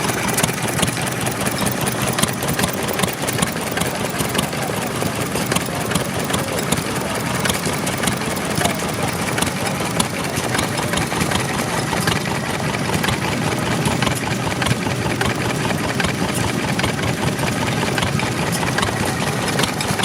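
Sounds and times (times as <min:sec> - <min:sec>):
stationary engine running: 0:00.0 - 0:20.0.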